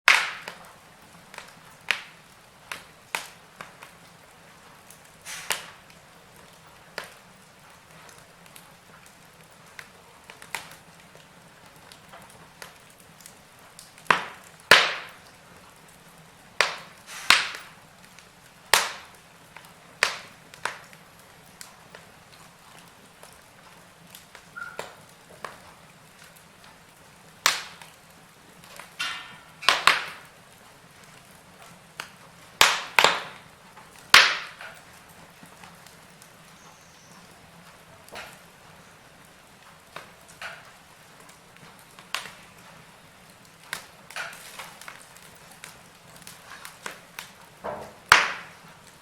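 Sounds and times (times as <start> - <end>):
wood fire crackling and popping: 0.1 - 49.0.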